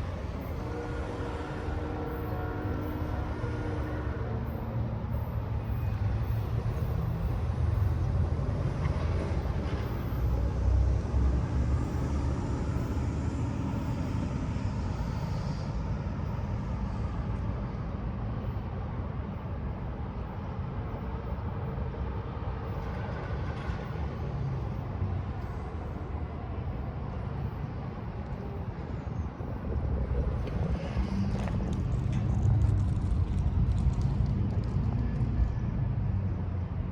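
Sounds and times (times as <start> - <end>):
train passing rumble: 0.0 - 36.9.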